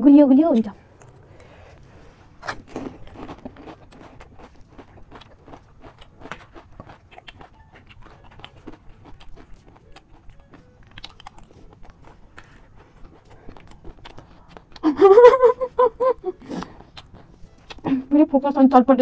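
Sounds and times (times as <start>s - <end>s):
chewing and crunching crisp food: 0.9s - 18.3s.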